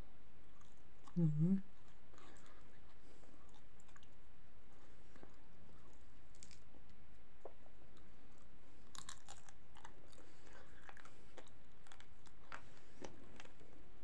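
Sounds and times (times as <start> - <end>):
person chewing crunchy flatbread: 0.4 - 14.0.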